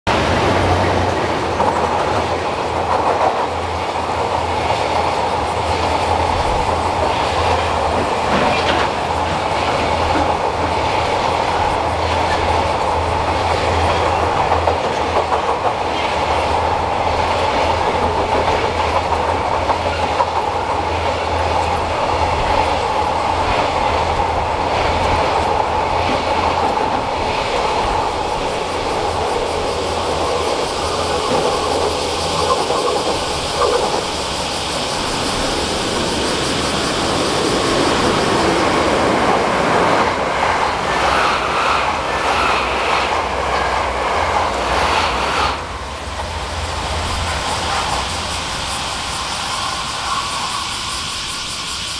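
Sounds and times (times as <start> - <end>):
train wheels clacking on rails: 0.1 - 51.9.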